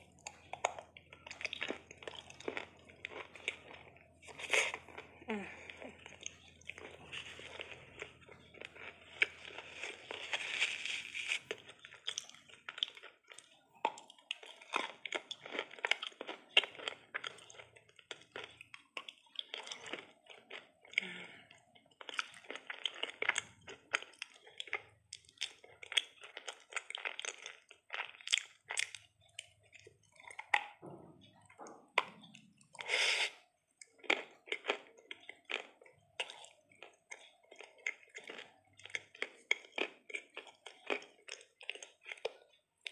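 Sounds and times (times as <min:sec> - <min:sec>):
chewing and crunching: 0:00.0 - 0:42.9.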